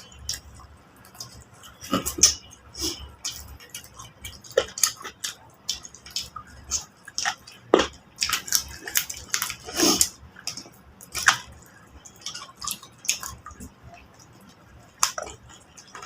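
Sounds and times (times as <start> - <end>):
wet chewing and lip-smacking: 0.0 - 16.0.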